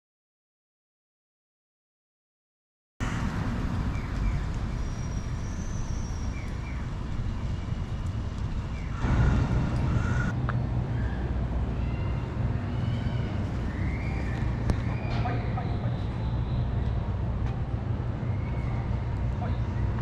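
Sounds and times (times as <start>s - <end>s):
low outdoor rumble: 3.0s - 20.0s.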